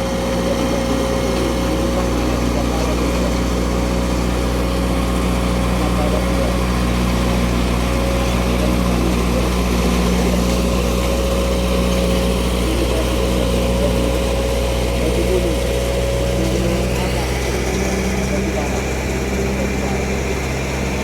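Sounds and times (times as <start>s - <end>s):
vehicle engine running steadily: 0.0s - 21.0s.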